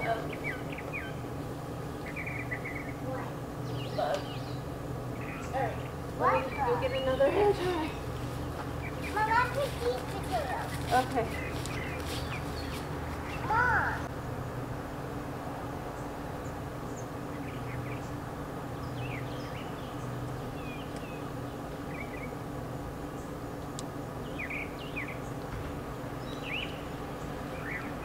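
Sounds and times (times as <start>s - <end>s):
birds chirping: 0.0s - 14.7s, 15.8s - 28.0s
low background hum: 0.0s - 28.0s.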